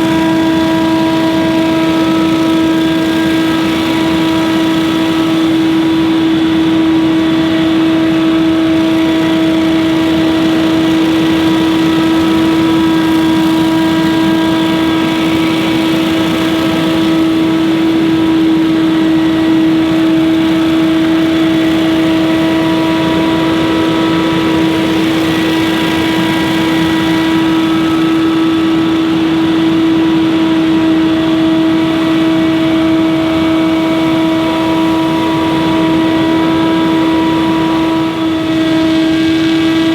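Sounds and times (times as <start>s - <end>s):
leaf blower droning: 0.0s - 39.9s.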